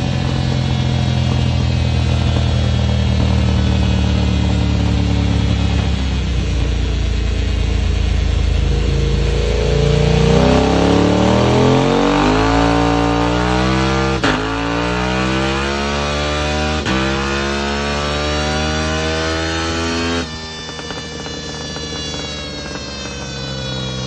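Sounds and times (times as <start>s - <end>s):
motorcycle engine revving on dynamometer: 0.0s - 24.0s.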